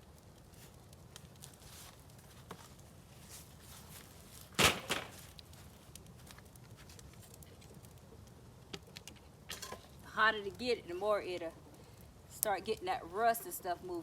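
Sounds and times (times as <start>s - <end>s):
loud crack of fire: 0.0s - 14.0s
wood fire crackling: 0.0s - 14.0s.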